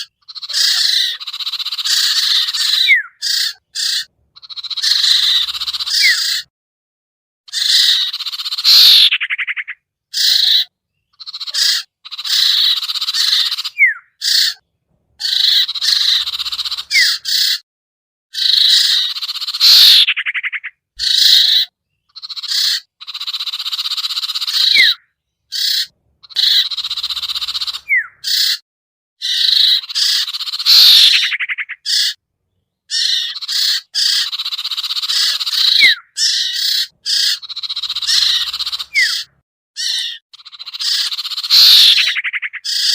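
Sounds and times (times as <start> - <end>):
harsh bird chattering: 0.0 - 6.5, 7.5 - 14.6, 15.2 - 17.6, 18.4 - 28.6, 29.2 - 32.2, 32.8 - 42.9.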